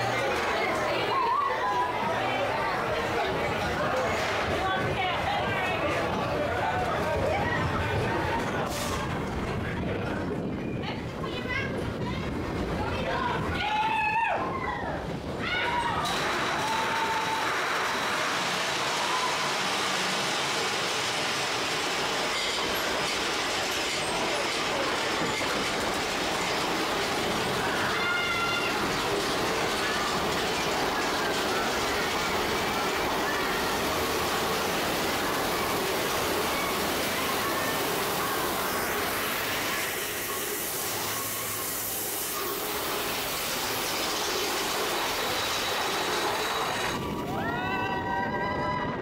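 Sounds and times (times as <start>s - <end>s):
roller coaster wheels on rail: 0.0s - 49.0s.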